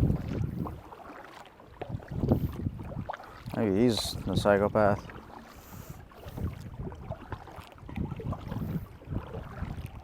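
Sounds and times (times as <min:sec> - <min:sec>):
paddle splashes and hull knocks: 0:00.0 - 0:10.0.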